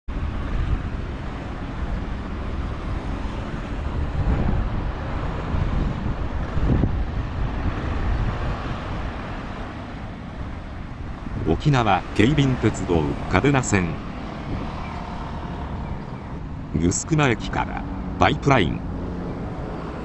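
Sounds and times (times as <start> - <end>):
wind buffeting microphone: 0.1 - 16.8
cars passing with low rumble: 0.1 - 20.0.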